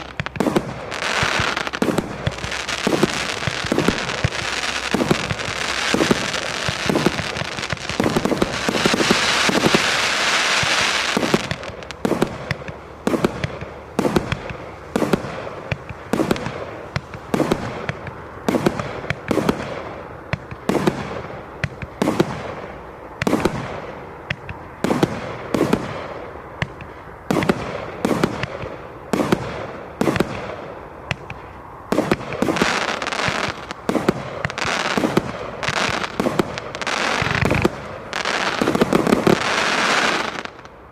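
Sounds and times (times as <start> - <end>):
firework bangs: 0.0 - 40.9
firework crackling: 0.0 - 40.9.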